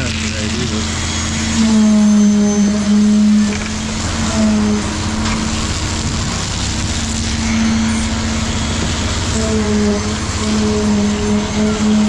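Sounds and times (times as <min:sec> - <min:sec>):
concrete pump engine rumble: 0:00.0 - 0:12.0
steady humming tone: 0:00.0 - 0:12.0.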